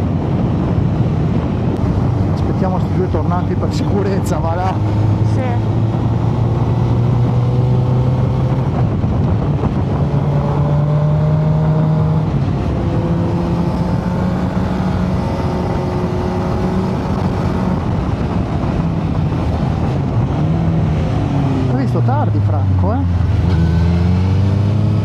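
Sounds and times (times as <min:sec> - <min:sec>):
wind noise: 0:00.0 - 0:25.0.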